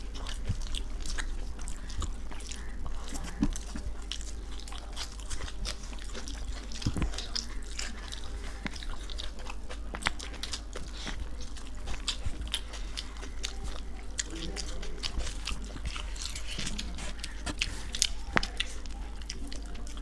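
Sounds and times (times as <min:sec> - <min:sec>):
chewing and smacking: 0:00.0 - 0:20.0
small crunches: 0:00.0 - 0:20.0.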